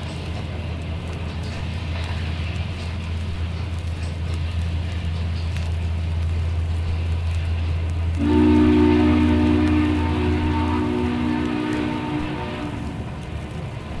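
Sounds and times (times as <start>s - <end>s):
steam locomotive rumbling: 0.0s - 14.0s.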